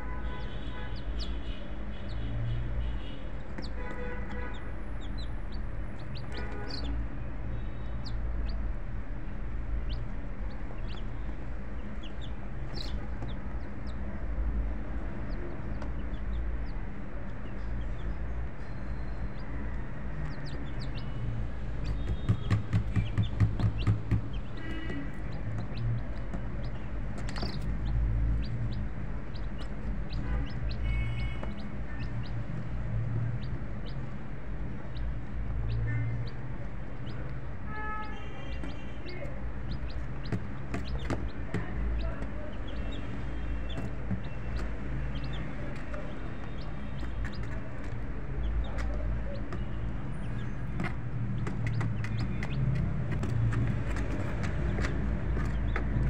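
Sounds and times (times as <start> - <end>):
chicks peeping: 0.2 - 56.0.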